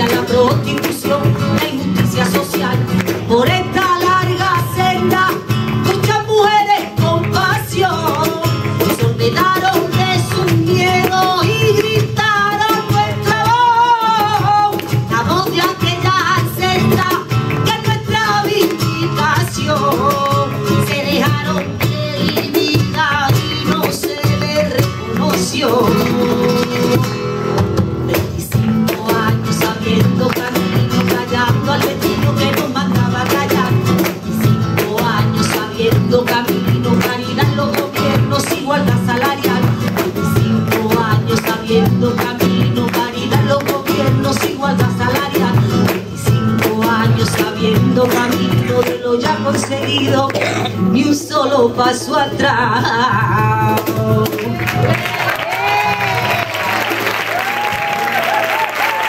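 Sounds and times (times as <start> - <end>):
strummed guitar: 0.0 - 54.9
woman singing: 0.0 - 56.5
cajon drum: 0.0 - 59.0.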